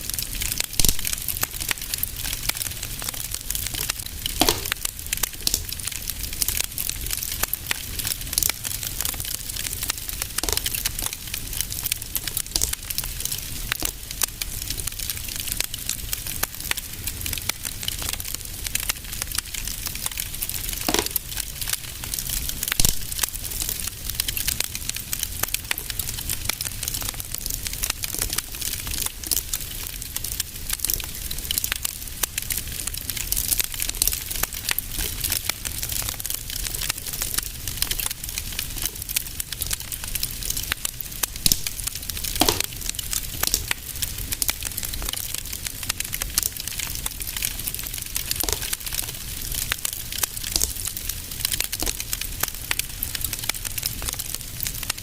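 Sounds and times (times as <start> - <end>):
fire crackling in fireplace: 0.0 - 55.0
loud pops of fire: 0.1 - 54.7.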